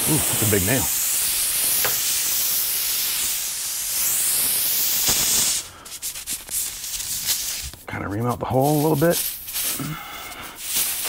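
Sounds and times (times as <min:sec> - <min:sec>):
air hissing out of tire: 0:00.0 - 0:07.8, 0:08.8 - 0:11.0.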